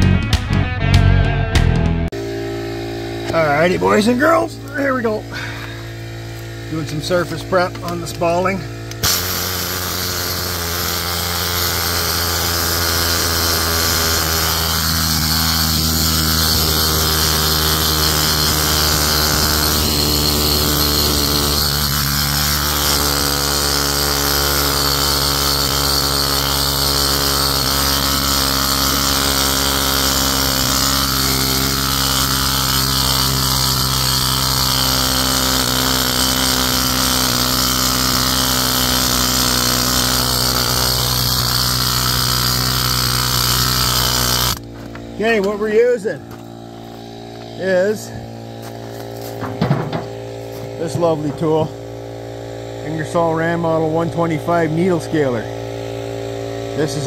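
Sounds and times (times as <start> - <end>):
needle scaler hammering concrete: 3.2 - 51.9.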